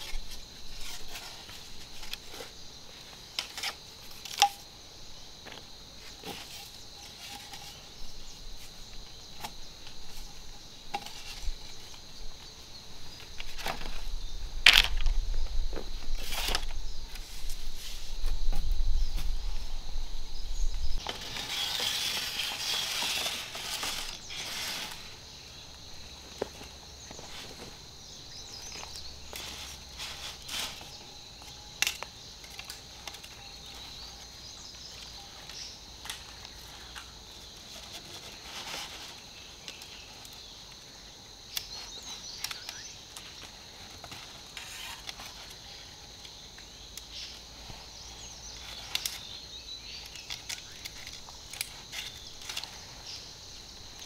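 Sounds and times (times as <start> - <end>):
rustling and crackling: 0.0 - 4.7, 5.4 - 40.9, 41.5 - 54.0
insects buzzing: 0.0 - 54.0.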